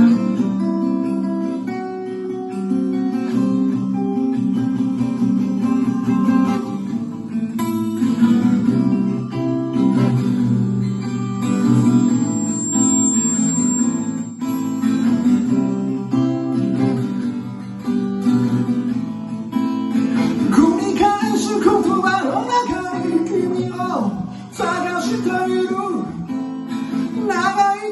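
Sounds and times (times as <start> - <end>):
acoustic guitar strumming: 0.0 - 27.9.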